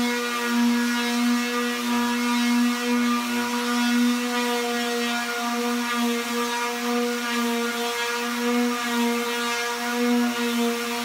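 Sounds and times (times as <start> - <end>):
electric sander running: 0.0 - 11.0.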